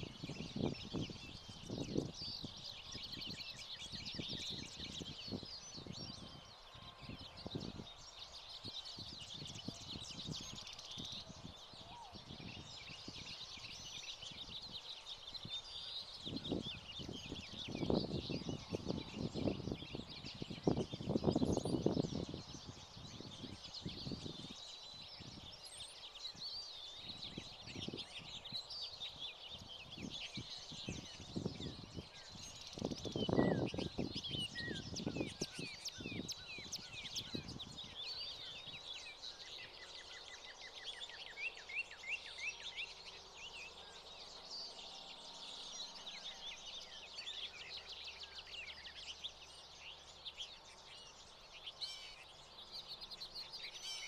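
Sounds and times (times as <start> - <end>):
finches twittering and chirping: 0.0 - 54.0.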